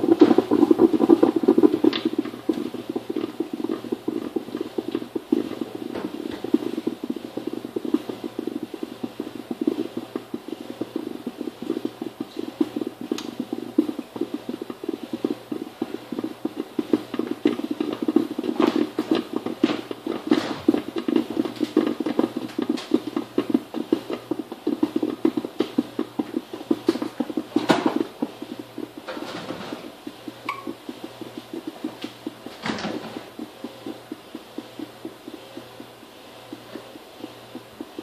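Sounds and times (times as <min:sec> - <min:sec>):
coffee maker bubbling and gurgling: 0:00.0 - 0:38.0
sharp pops and clicks: 0:00.0 - 0:38.0.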